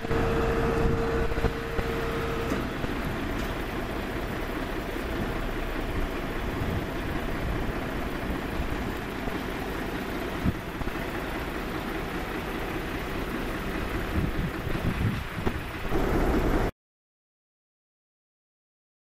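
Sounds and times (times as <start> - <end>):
fire engine idling: 0.0 - 16.7.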